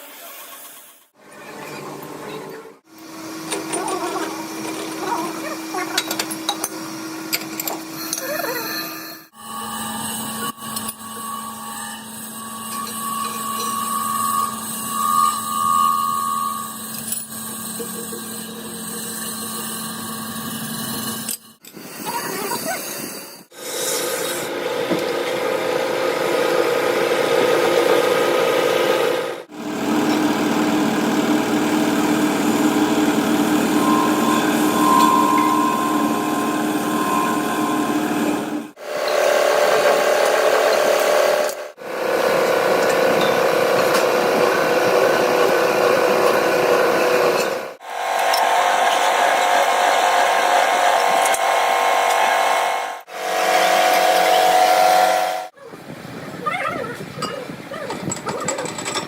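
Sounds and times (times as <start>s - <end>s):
power tools on metal wheel rim: 6.0s - 22.4s, 23.4s - 55.6s.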